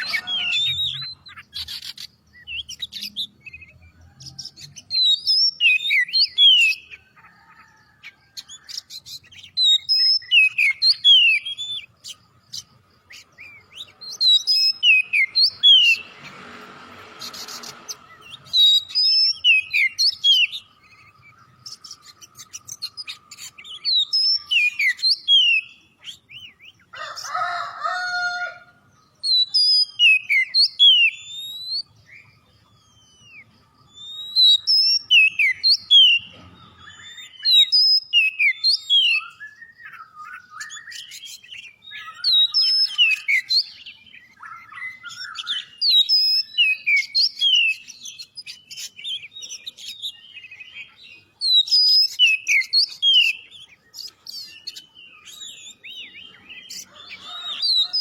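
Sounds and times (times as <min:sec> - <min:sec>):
bird whistled song: 0:00.0 - 0:16.3, 0:17.2 - 0:26.9, 0:29.1 - 0:58.0.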